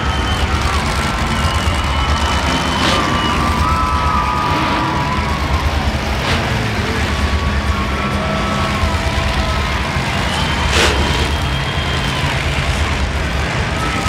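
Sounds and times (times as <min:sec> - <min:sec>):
monster truck engines rumbling: 0:00.0 - 0:14.0.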